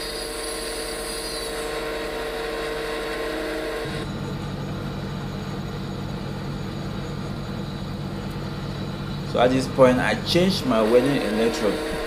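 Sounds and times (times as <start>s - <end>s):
welding machine hum with hiss: 0.0s - 12.0s.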